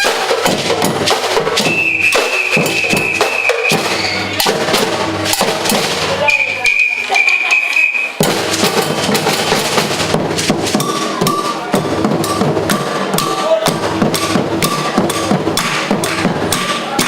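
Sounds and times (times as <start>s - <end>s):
wood block strikes: 0.0s - 6.3s, 8.2s - 17.0s
drums: 0.0s - 17.0s.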